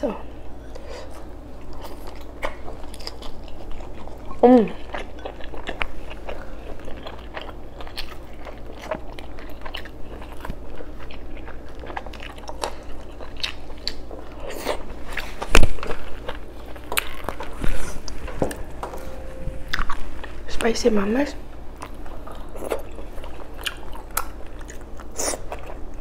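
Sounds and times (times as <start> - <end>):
chewing and mouth smacks: 1.6 - 18.6, 21.8 - 26.0.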